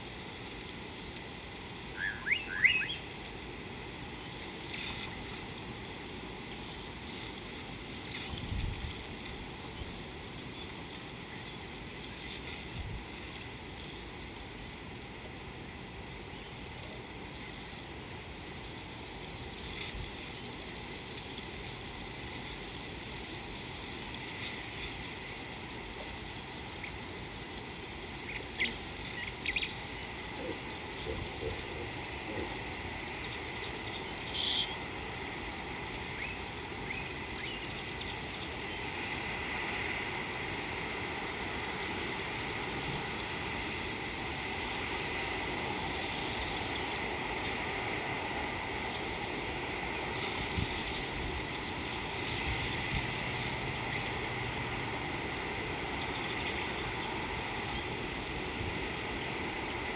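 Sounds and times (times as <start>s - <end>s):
bush ambience hiss: 0.0s - 59.9s
cricket chirping: 0.0s - 59.9s.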